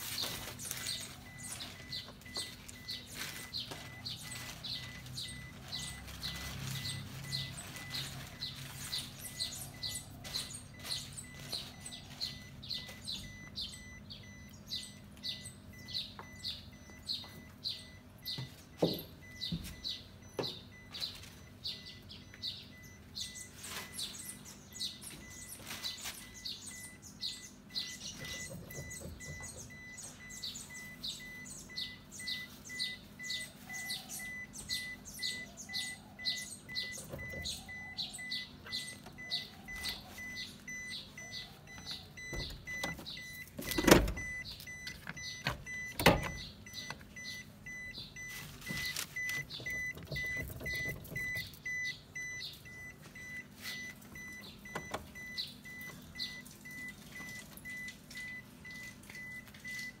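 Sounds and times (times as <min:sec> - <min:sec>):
bird chirping: 0:00.0 - 1:00.0
pulsing high beep: 0:00.4 - 1:00.0.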